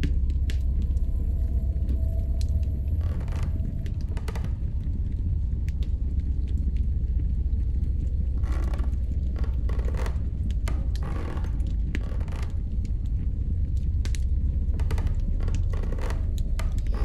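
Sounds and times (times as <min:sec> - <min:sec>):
deep rumble: 0:00.0 - 0:17.0.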